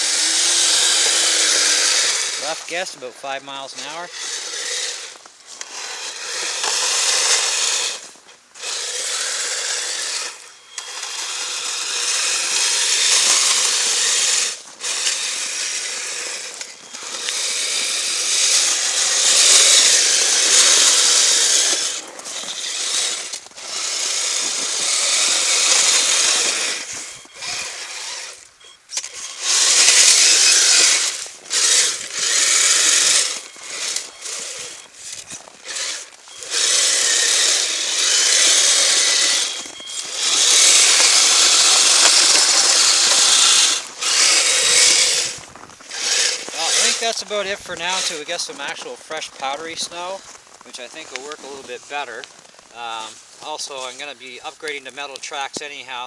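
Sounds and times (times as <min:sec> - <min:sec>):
toy tracked vehicle motor whirring: 0:00.0 - 0:56.0.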